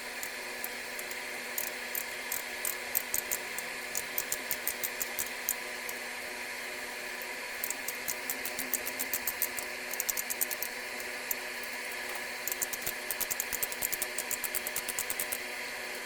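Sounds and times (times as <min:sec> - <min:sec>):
ratchet pawl clicking: 0:00.0 - 0:06.0, 0:07.6 - 0:15.4.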